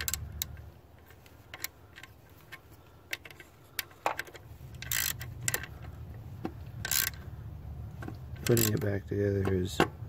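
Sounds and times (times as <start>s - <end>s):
ratchet clicking: 0.0s - 7.4s, 8.0s - 9.1s.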